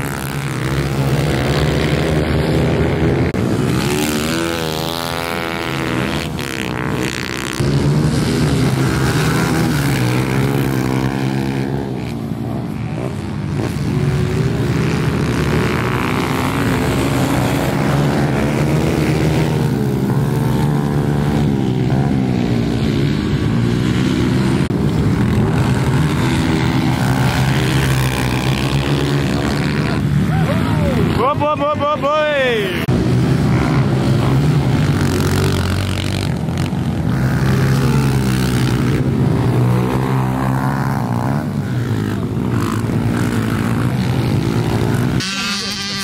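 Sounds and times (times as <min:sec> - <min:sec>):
small motorbike engines revving: 0:00.0 - 0:46.0.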